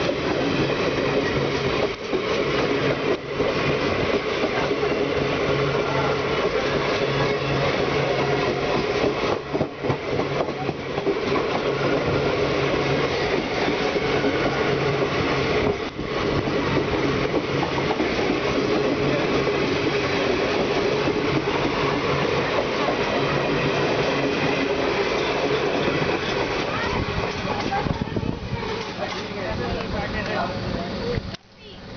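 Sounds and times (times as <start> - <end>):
train wheels roaring on rails: 0.0 - 31.9.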